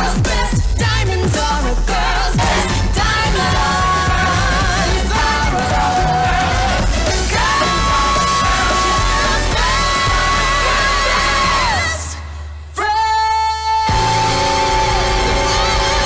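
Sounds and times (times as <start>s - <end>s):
high voice singing with vibrato: 0.0s - 16.0s
pop music with steady beat: 0.0s - 16.0s.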